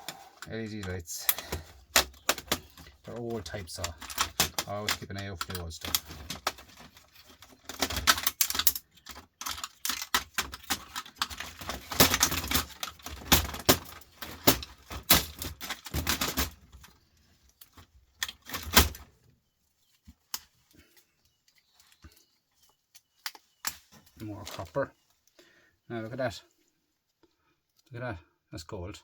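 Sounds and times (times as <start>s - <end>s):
plastic parts clicking and clattering: 0.0s - 19.2s, 20.0s - 25.3s.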